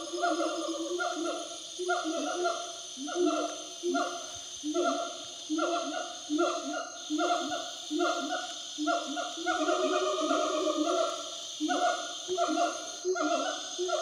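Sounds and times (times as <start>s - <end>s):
gibbons hooting: 0.0s - 14.0s.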